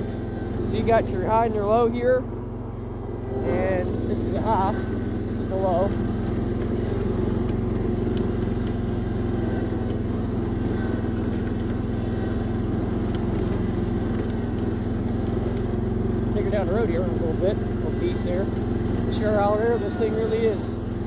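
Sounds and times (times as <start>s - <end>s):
garden tractor engine running: 0.0s - 21.0s.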